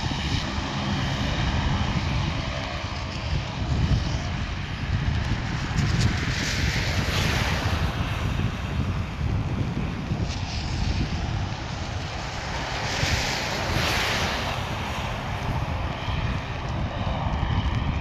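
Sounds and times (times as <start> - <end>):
turboprop engines hissing: 0.0 - 18.0
wind buffeting microphone: 0.0 - 18.0.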